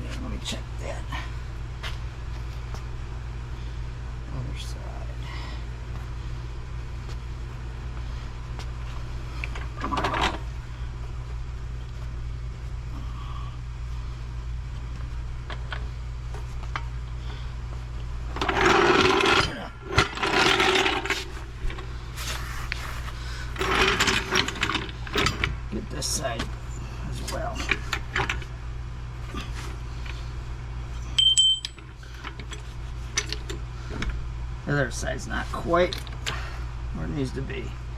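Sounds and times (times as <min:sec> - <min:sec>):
low workshop hum: 0:00.0 - 0:37.9.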